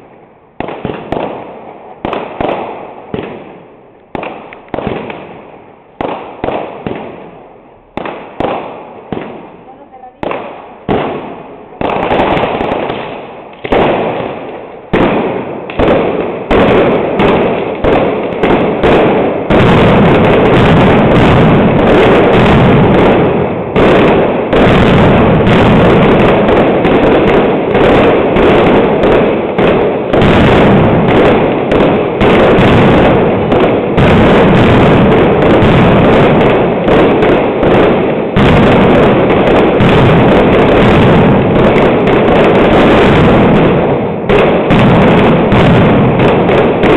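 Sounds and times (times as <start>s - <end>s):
firecrackers exploding: 0.0s - 46.9s.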